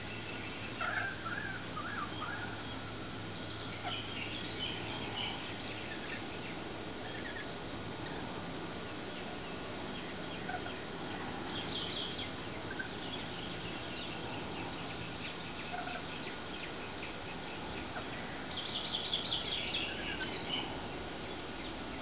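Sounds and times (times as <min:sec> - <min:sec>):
birds chattering: 0:00.0 - 0:22.0
steady hiss: 0:00.0 - 0:22.0.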